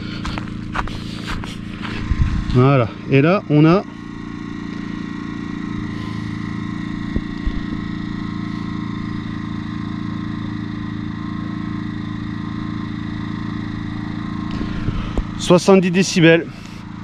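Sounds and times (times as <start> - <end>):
petrol generator running: 0.0 - 17.0.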